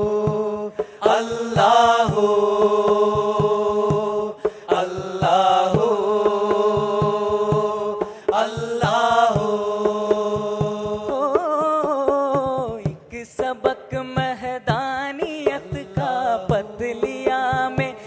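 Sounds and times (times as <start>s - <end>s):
drum beat: 0.0s - 18.0s.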